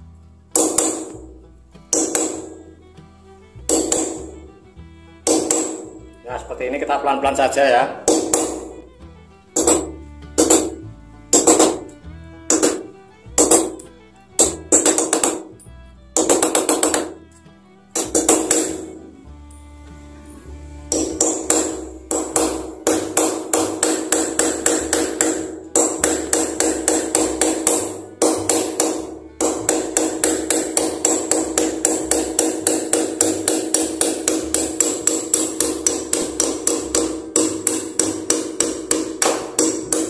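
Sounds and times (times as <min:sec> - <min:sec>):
hammer tapping metal nail: 0:00.5 - 0:02.8, 0:03.5 - 0:04.6, 0:05.2 - 0:06.2, 0:08.0 - 0:19.6, 0:20.3 - 0:40.0.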